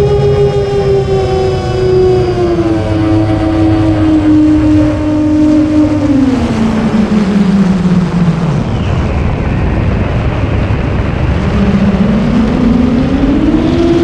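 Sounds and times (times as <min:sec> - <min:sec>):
drone motors and propellers: 0:00.0 - 0:14.0
heavy wind noise: 0:00.0 - 0:14.0.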